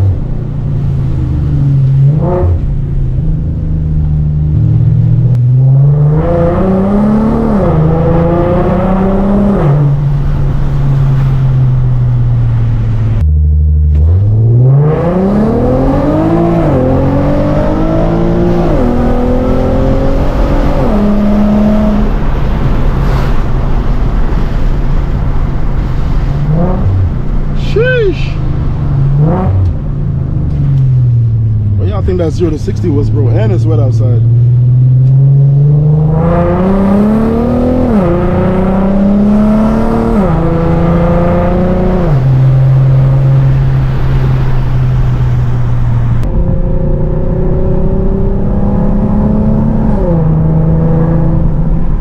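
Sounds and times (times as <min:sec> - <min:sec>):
car engine accelerating through gears: 0:00.0 - 0:52.0.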